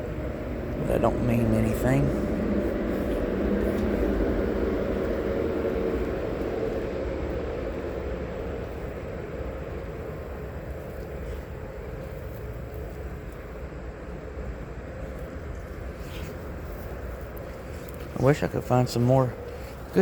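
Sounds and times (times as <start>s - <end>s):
passing vehicle rumble: 0.0s - 20.0s.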